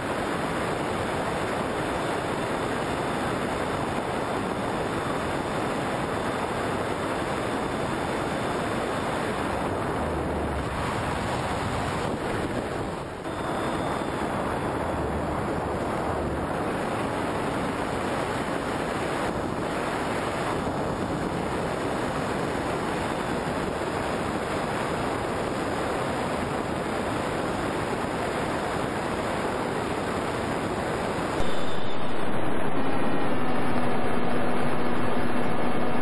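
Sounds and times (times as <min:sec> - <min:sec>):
airflow rushing over microphone: 0:00.0 - 0:36.0.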